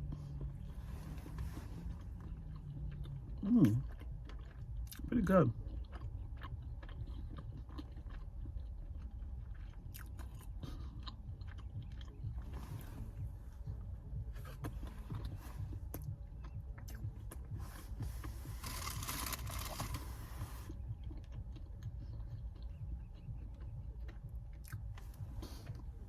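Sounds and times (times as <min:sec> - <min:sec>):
low rumble: 0:00.0 - 0:26.0
person chewing food: 0:00.0 - 0:26.0.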